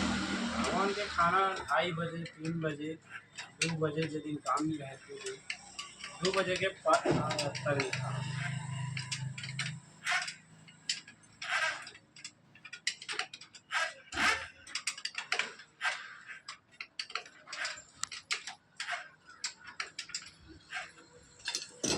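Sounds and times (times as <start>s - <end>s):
small hard objects clicking: 1.5s - 21.9s.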